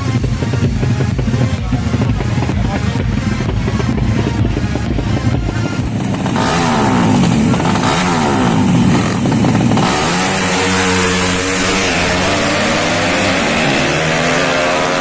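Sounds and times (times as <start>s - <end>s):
music with drum beat: 0.0s - 15.0s
racing motorcycle engines: 0.0s - 15.0s.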